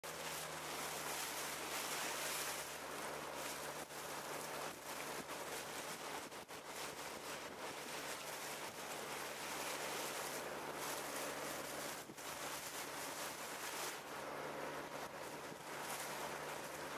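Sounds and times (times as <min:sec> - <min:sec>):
boat engine hum: 0:00.0 - 0:16.9
rush of water and wind: 0:00.0 - 0:16.9.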